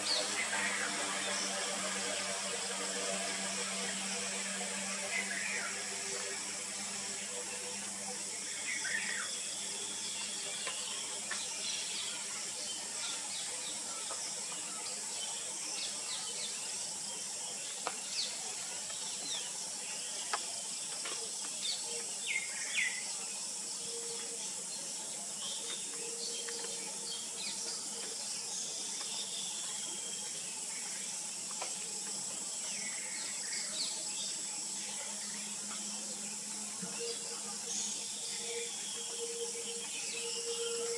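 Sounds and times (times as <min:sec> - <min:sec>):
steady high hiss: 0:00.0 - 0:40.9.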